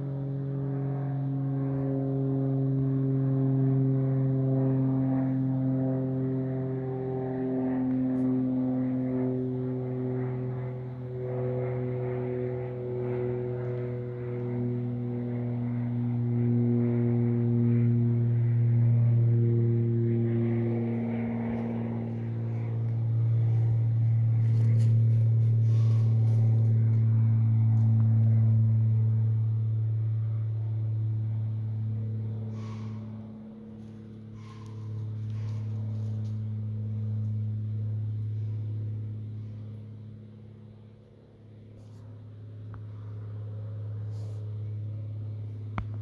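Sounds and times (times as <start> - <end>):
airplane droning overhead: 0.0 - 46.0.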